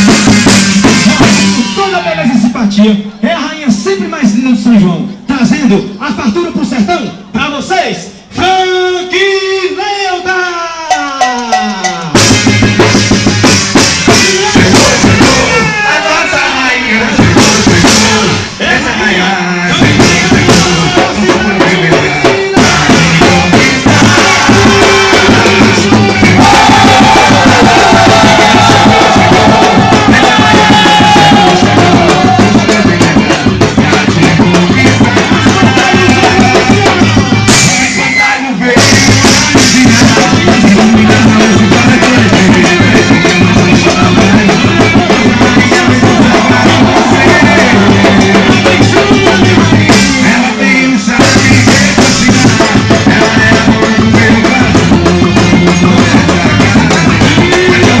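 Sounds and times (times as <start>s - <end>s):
loud folk dance music with drums: 0.0s - 2.5s, 10.9s - 18.8s, 19.7s - 58.0s.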